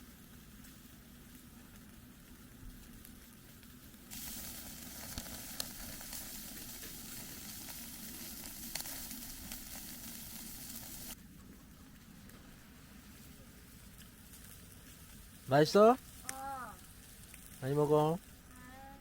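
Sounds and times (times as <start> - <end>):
meat sizzling on a grill: 0.0 - 11.2, 12.1 - 19.0.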